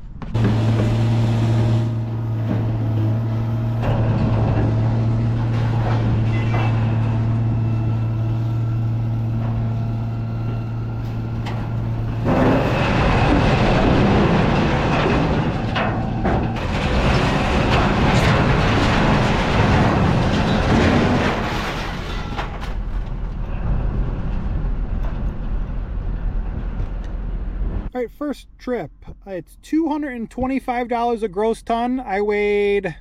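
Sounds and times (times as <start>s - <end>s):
road and rattle noise: 0.0s - 27.9s
truck engine drone: 0.0s - 33.0s.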